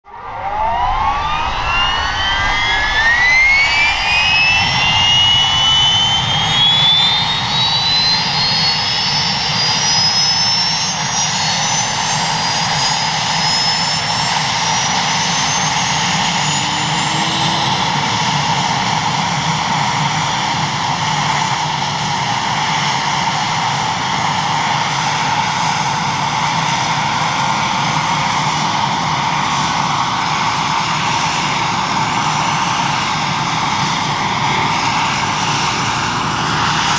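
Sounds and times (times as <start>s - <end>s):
helicopter turbine whine: 0.0s - 36.9s
low rotor rumble: 0.0s - 36.9s.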